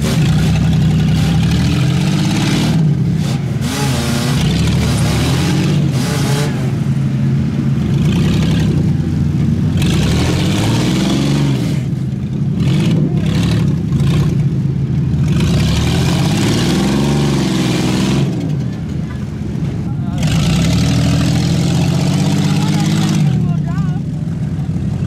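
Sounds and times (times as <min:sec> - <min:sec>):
truck engines revving: 0:00.0 - 0:25.0.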